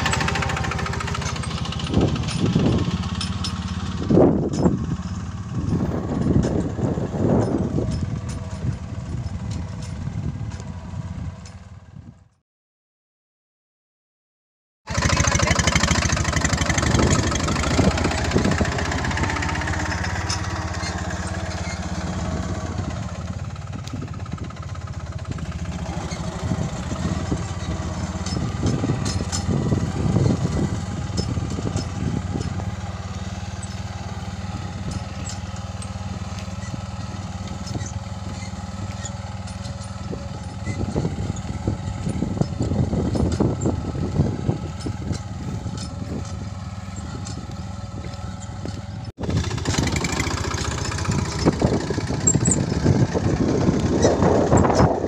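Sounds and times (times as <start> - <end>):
tractor diesel engine running: 0.0 - 12.4, 14.9 - 55.0.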